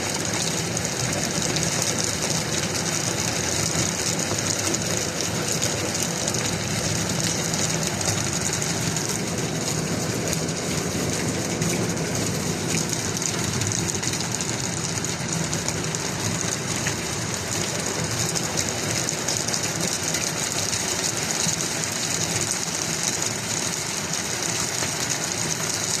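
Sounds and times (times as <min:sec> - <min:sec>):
heavy hail rattling: 0:00.1 - 0:20.9.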